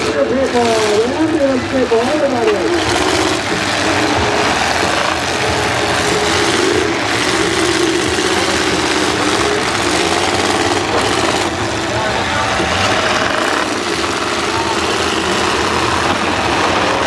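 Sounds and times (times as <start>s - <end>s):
unmuffled car engines revving: 0.0s - 17.0s.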